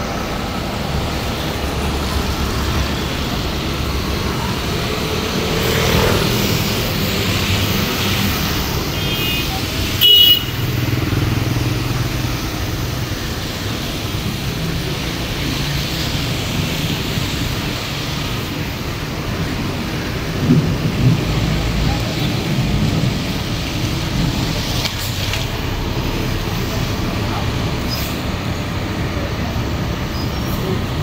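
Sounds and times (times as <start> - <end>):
traffic and motorbikes rumbling: 0.0 - 31.0.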